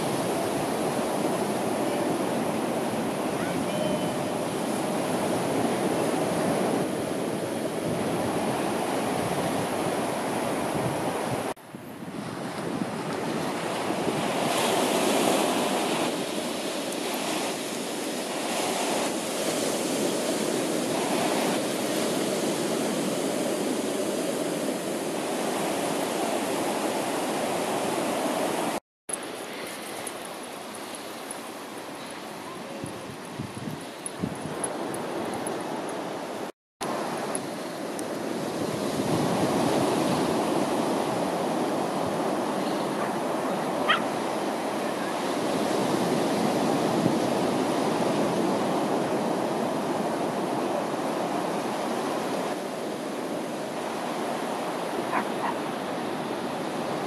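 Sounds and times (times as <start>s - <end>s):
surf washing onto beach: 0.0s - 57.0s
wind: 0.0s - 57.0s.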